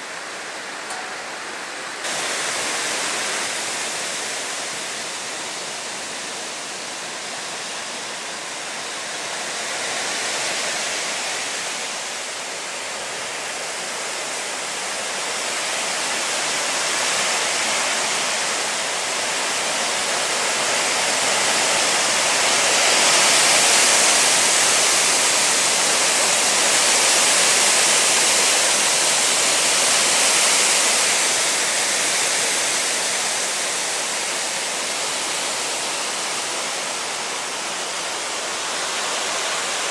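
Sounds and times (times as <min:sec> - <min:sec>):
wind rushing through leaves: 0:00.0 - 0:39.9.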